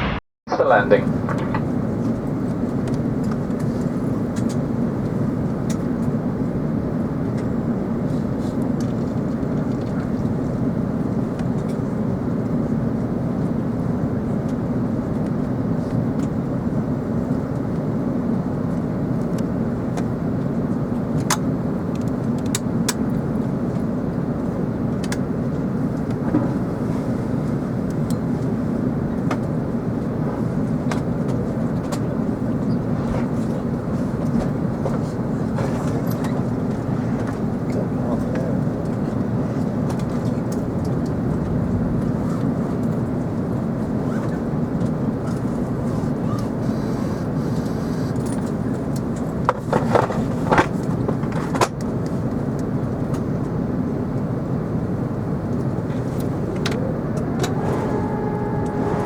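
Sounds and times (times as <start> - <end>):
airplane cabin airflow and engine: 0.0 - 59.0.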